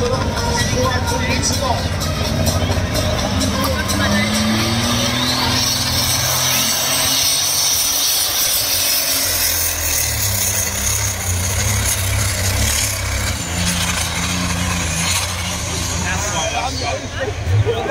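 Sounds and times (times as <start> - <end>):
tractor engine running hard: 0.0 - 17.9.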